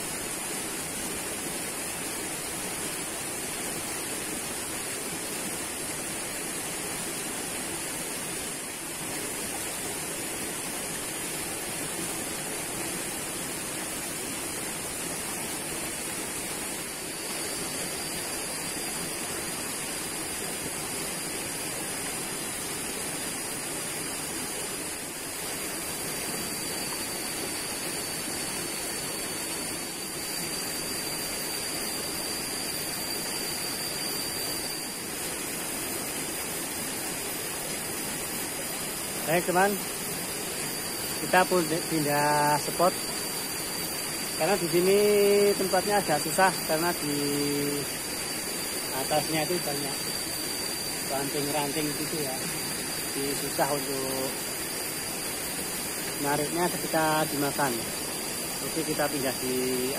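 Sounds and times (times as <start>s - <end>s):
high hiss: 0.0s - 59.9s
stream water flowing: 0.0s - 59.9s
thin high whine: 0.0s - 59.9s.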